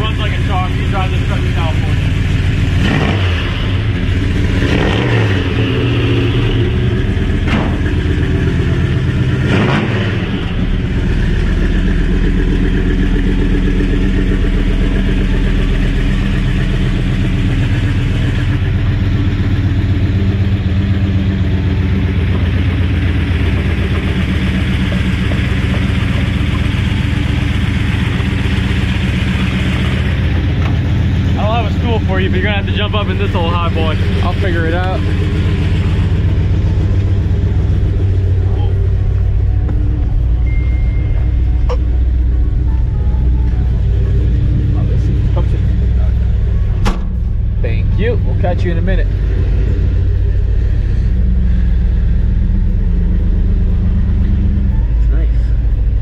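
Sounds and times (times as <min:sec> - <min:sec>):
truck engine revving and idling: 0:00.0 - 0:56.0.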